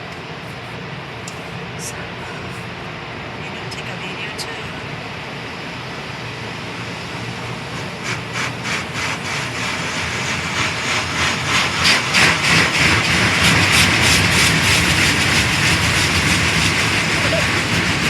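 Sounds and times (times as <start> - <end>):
car wash water and machinery: 0.0 - 18.0.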